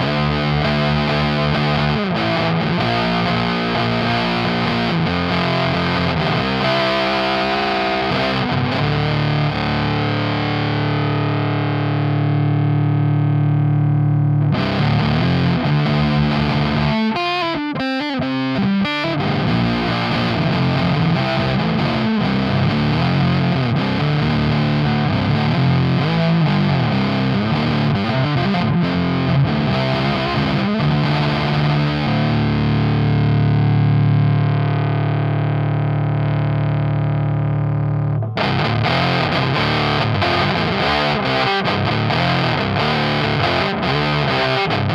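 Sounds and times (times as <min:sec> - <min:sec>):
heavily fuzzed electric guitar: 0:00.0 - 0:44.9.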